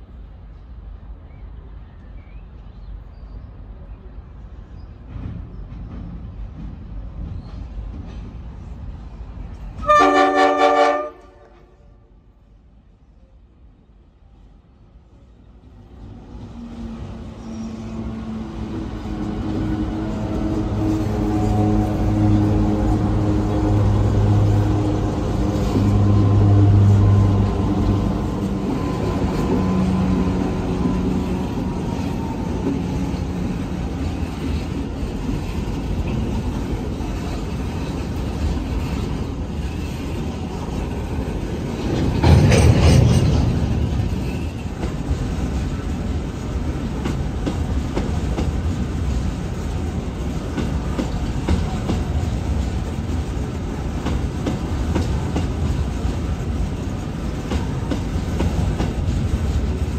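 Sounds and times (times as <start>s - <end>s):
diesel locomotive engine drone: 0.0s - 59.9s
train wheels clacking on rail joints: 4.8s - 11.6s, 18.0s - 59.9s.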